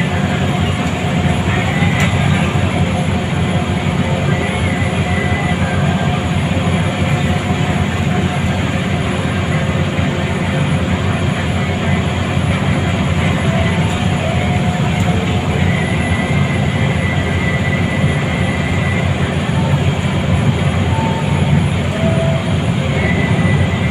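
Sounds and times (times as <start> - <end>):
bus engine running: 0.0 - 23.9
road noise: 0.0 - 23.9.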